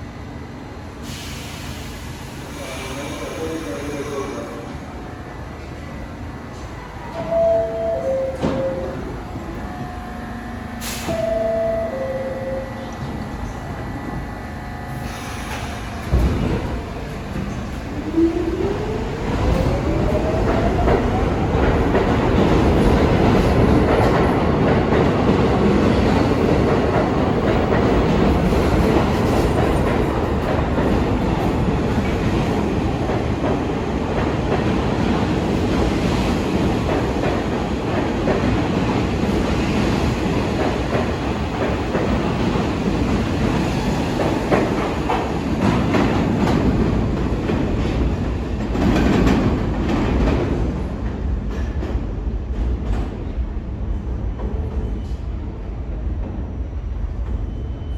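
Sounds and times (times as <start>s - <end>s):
subway train rumble: 0.0s - 57.9s.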